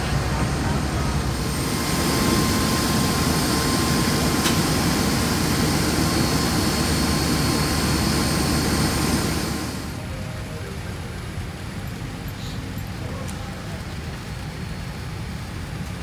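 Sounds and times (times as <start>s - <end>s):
airliner jet engines rumbling: 0.0s - 16.0s
high steady jet whine: 0.0s - 16.0s.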